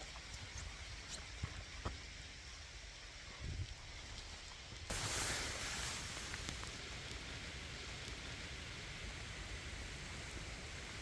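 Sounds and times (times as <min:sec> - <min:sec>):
rain falling in forest: 0:00.0 - 0:11.0.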